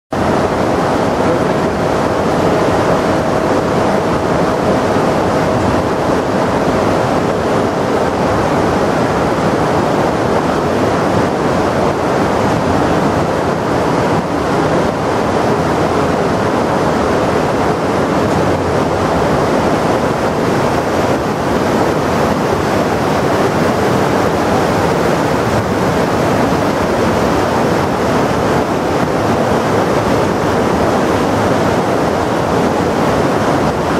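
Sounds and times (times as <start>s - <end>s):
water rushing over rocks: 0.1s - 33.9s
faint steady hum: 0.2s - 33.9s.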